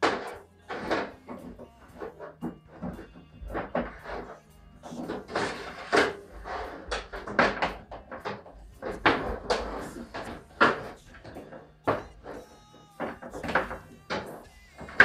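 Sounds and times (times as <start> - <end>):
hollow metal knocks and clunks: 0.0 - 15.0.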